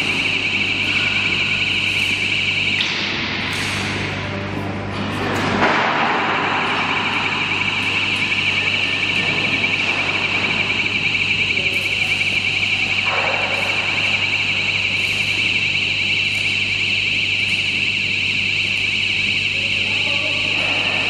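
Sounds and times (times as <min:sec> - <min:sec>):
high-pitched warbling alarm: 0:00.0 - 0:04.3, 0:05.8 - 0:21.0.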